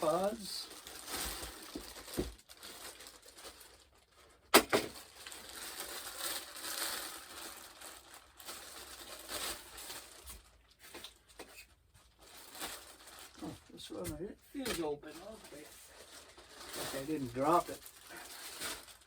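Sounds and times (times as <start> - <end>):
plastic and cardboard rustling: 0.0 - 19.0.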